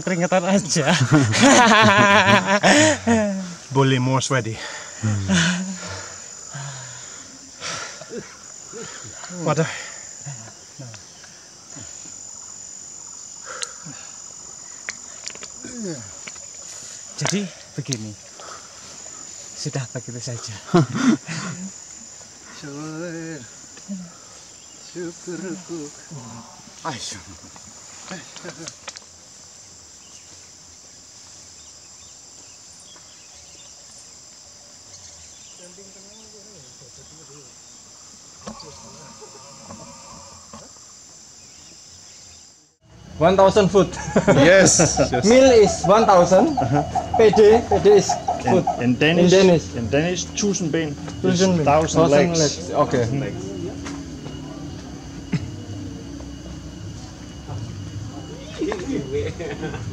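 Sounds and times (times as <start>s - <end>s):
insect trilling: 0.0s - 59.9s.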